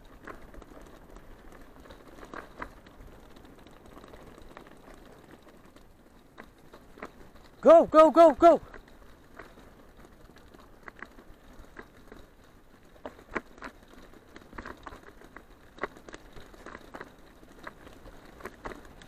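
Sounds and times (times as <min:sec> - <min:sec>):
leaves crackling under tyres: 0:00.0 - 0:07.7, 0:08.6 - 0:19.0
bicycle tyre rumble on dirt: 0:00.0 - 0:19.0.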